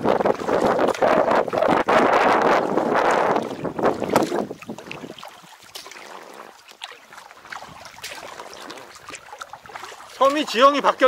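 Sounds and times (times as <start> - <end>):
wind on microphone: 0.0 - 6.6, 7.4 - 10.0
water splashes against hull: 0.0 - 11.0.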